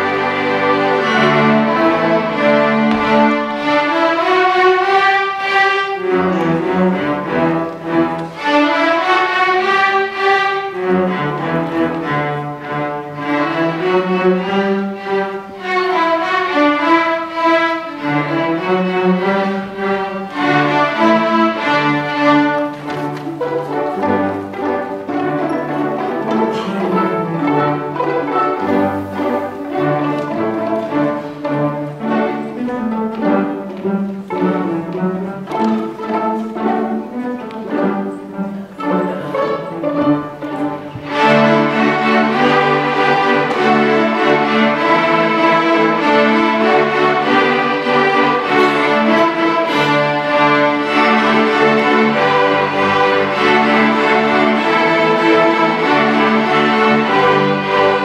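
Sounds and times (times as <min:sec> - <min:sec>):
string orchestra playing: 0:00.0 - 0:58.0.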